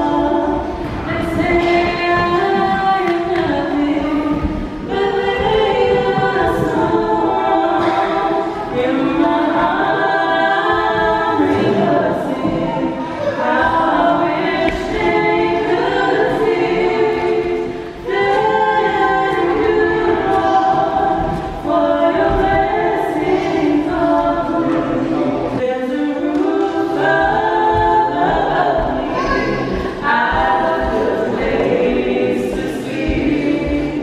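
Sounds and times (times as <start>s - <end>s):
group singing a cappella: 0.0s - 34.0s.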